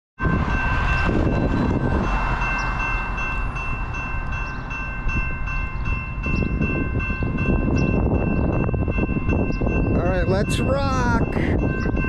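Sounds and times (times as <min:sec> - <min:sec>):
crossing warning bell ringing: 0:00.2 - 0:12.0.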